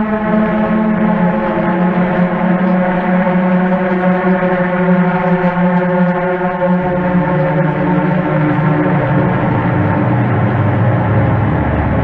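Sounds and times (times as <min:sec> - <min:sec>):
low ambient music drone: 0:00.0 - 0:12.0.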